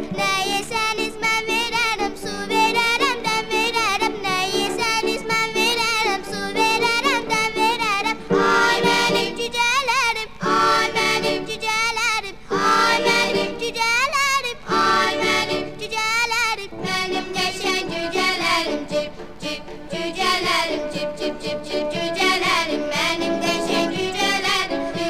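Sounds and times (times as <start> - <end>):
instrumental accompaniment: 0.0 - 9.7, 10.4 - 11.7, 12.5 - 14.0, 14.7 - 25.0
person singing with vibrato: 0.0 - 25.0.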